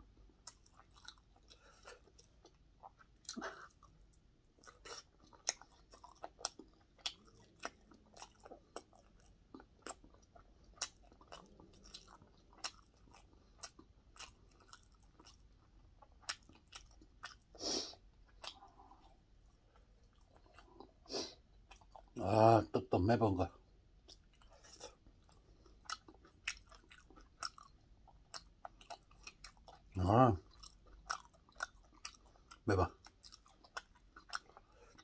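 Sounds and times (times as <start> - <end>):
man chewing food: 0.0 - 22.2, 23.5 - 35.0.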